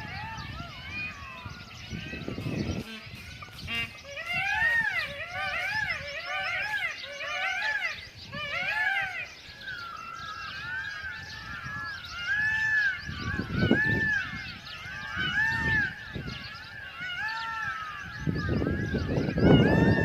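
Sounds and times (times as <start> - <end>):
flock of birds calling: 0.0 - 20.0.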